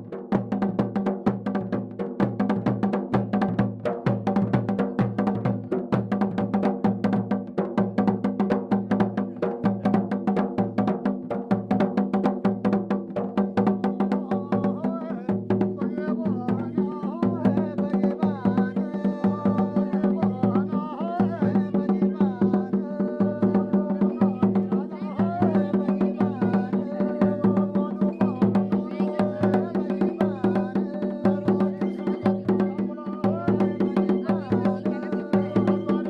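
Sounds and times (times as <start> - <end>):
even drum beat: 0.0 - 36.0.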